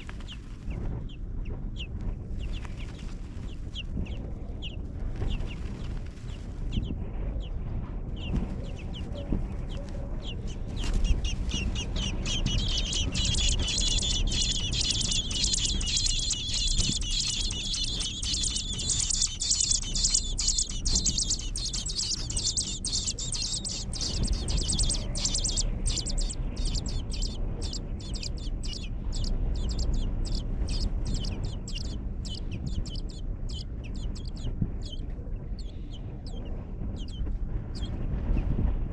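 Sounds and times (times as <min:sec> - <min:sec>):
baby birds chirping shrilly: 0:00.0 - 0:38.0.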